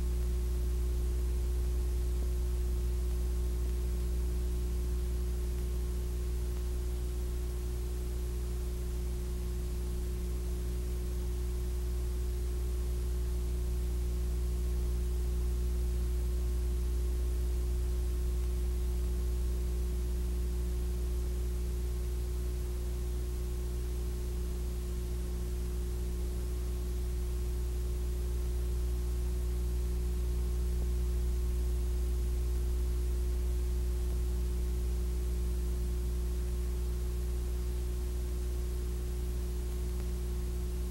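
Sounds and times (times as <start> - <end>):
constant hiss: 0.0 - 40.9
electrical hum with tones: 0.0 - 40.9.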